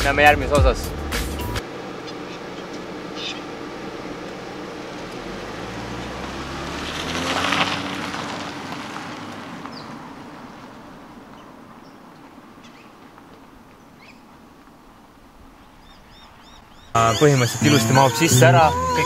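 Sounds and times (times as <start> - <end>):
car engine driving away: 0.0 - 19.0
tyres on dirt road: 0.0 - 19.0.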